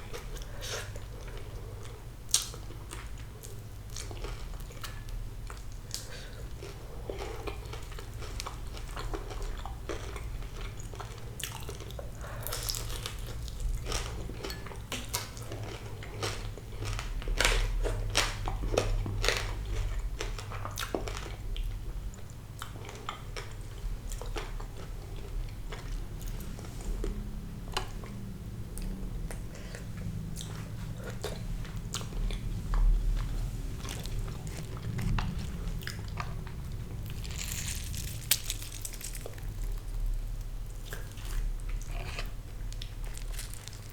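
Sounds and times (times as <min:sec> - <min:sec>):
chewing crispy fried fish: 0:00.0 - 0:43.9.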